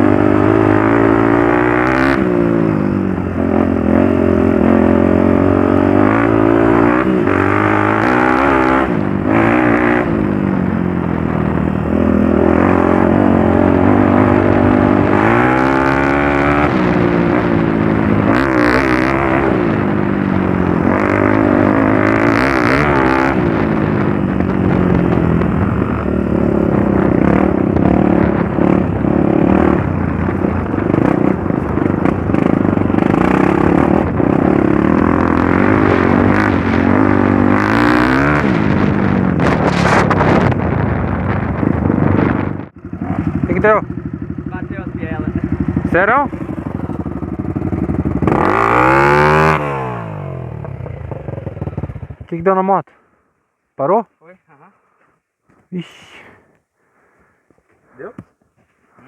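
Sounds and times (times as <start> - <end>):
motorcycle engine revving: 0.0 - 53.3.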